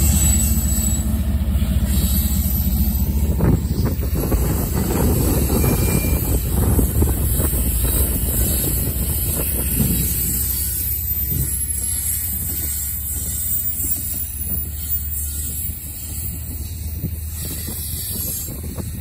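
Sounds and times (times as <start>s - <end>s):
train wheels rumbling on rail: 0.0s - 19.0s
wind buffeting microphone: 1.4s - 19.0s.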